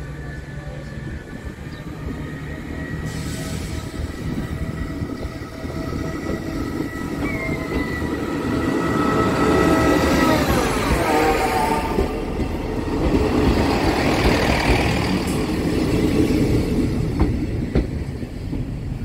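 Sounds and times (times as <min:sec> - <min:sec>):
diesel train engine: 0:00.0 - 0:19.0
train wheels on rails: 0:00.0 - 0:19.0.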